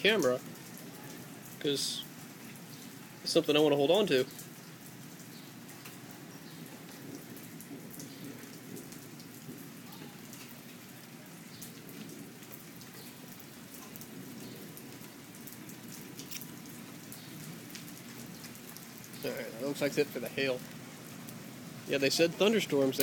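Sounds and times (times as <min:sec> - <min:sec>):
rain on pavement and grass: 0:00.0 - 0:23.0.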